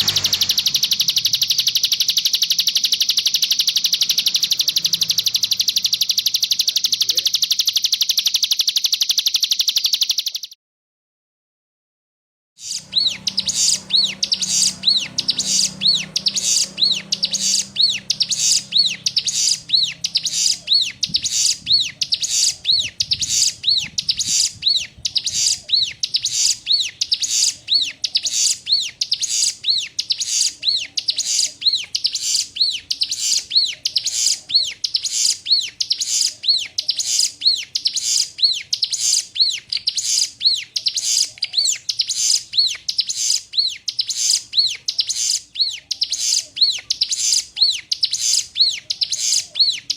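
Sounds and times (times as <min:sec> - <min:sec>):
bird singing high chirping notes: 0:00.0 - 0:10.6, 0:12.6 - 0:49.9.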